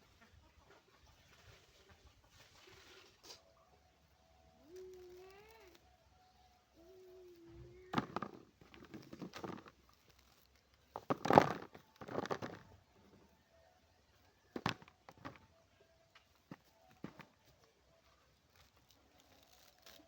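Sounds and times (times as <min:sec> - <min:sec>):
rustling: 0:01.1 - 0:03.6, 0:04.3 - 0:13.5, 0:14.1 - 0:20.0.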